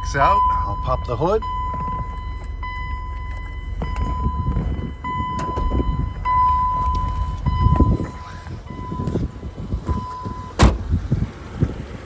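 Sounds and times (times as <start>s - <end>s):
high warning tone: 0.0s - 10.6s
car engine idling: 0.0s - 12.0s.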